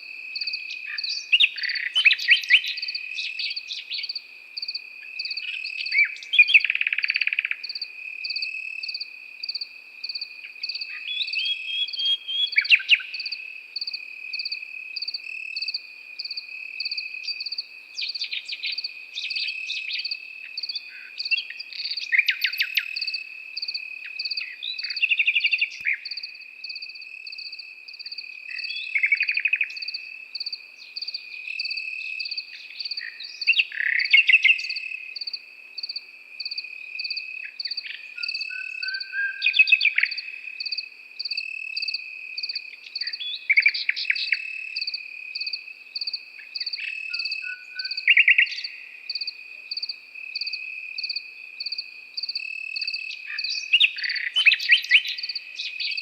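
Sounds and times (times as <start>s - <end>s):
cricket chirping in even pulse: 0.0s - 56.0s
cricket trilling: 0.0s - 56.0s
nightingale singing: 0.0s - 56.0s.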